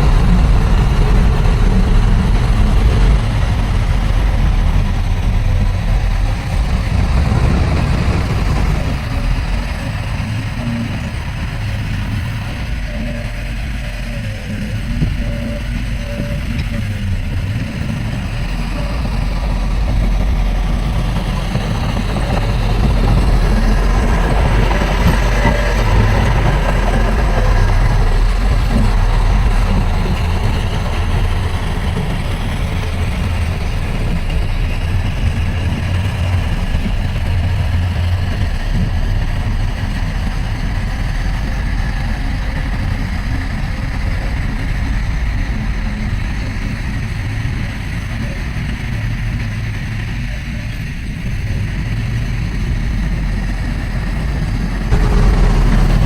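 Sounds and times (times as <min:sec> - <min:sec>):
heavy machinery diesel engine running: 0:00.0 - 0:56.0.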